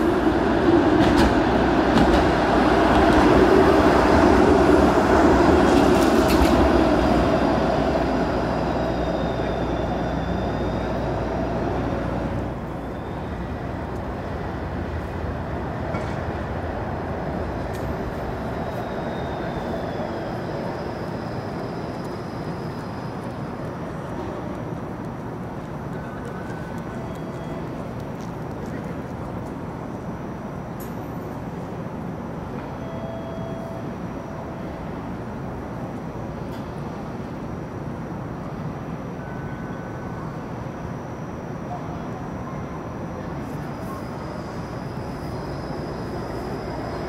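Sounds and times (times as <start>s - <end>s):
hum of city traffic: 0.0s - 47.0s
streetcar rumbling on rails: 0.0s - 47.0s.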